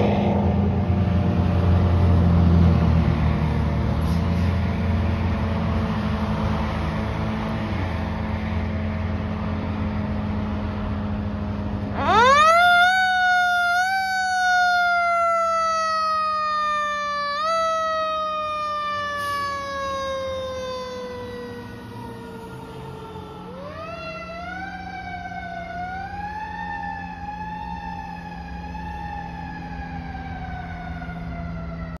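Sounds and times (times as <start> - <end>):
fire engine siren wailing: 0.0 - 32.0.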